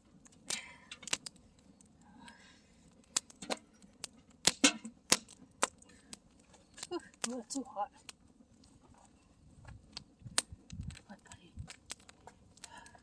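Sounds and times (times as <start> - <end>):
campfire crackling and popping: 0.0 - 9.0, 9.6 - 13.0.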